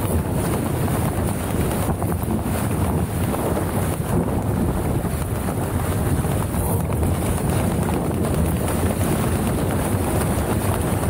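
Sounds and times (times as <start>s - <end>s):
water rushing along a hull: 0.0s - 11.0s
wind buffeting microphone: 0.0s - 11.0s.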